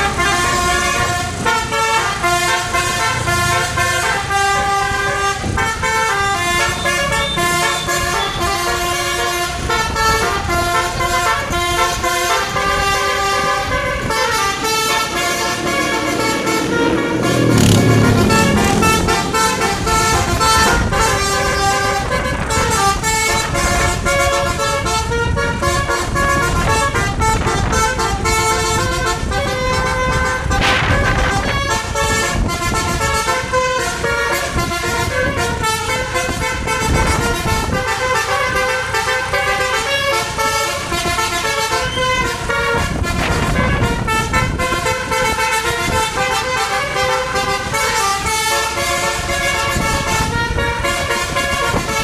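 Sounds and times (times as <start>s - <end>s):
bus engine: 0.0s - 52.0s
multi-tone air horn melody: 0.0s - 52.0s
road noise: 0.0s - 52.0s.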